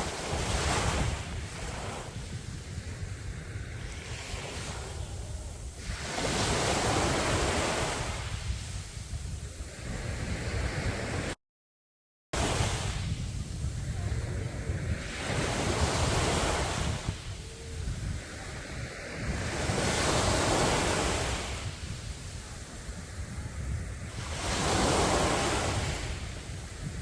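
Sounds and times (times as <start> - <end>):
sea waves breaking on beach: 0.0 - 11.4, 12.4 - 27.0
wind rumble on microphone: 0.0 - 11.4, 12.4 - 27.0.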